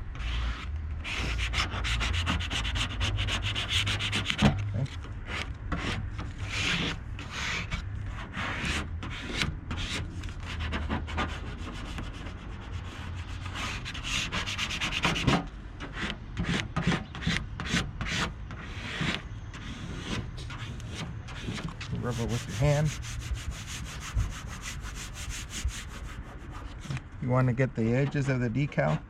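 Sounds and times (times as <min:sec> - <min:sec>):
card scraping vinyl on car panel: 0:00.0 - 0:29.0.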